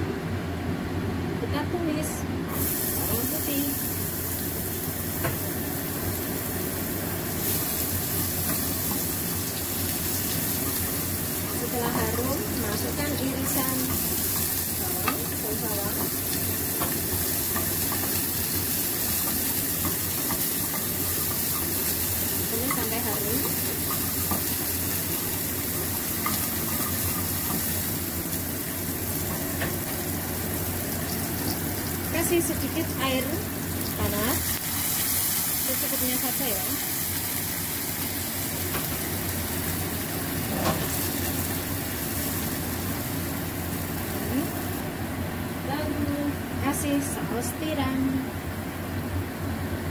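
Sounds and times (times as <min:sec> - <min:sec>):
garlic sizzling in hot oil: 0:02.5 - 0:45.2.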